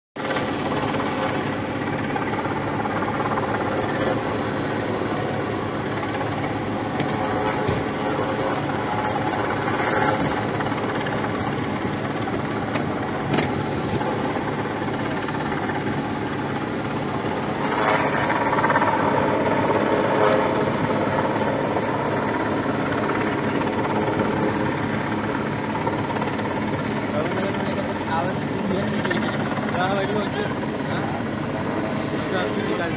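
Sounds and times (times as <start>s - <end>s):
helicopter rotor and engine: 0.2s - 32.9s.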